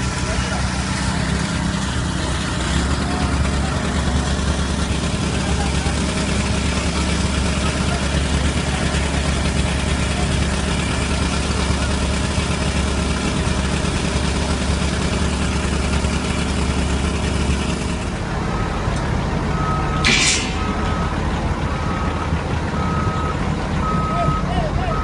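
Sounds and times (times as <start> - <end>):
construction machinery engine drone: 0.0 - 25.0.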